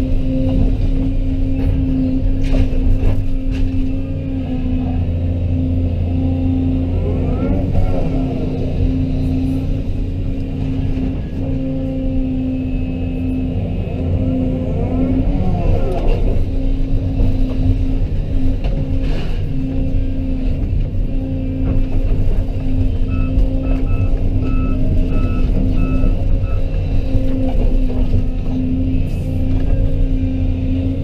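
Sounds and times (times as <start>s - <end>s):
excavator diesel engine drone: 0.0s - 31.0s.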